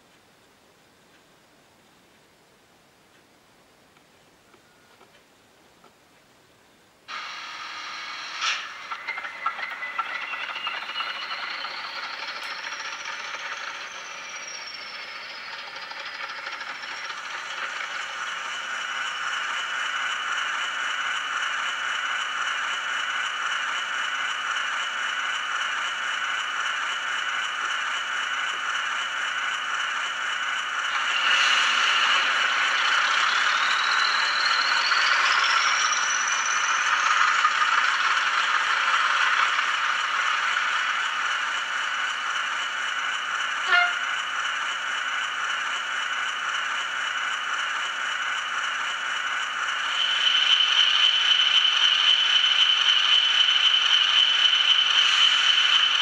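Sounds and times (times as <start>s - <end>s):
model locomotive diesel engine sound: 0.0s - 56.0s
rising whine: 7.1s - 56.0s.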